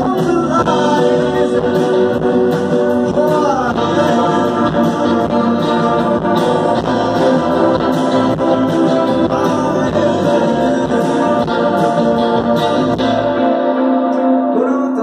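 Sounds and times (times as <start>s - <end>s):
person singing: 0.0s - 12.8s, 14.1s - 15.0s
live rock band playing: 0.0s - 15.0s.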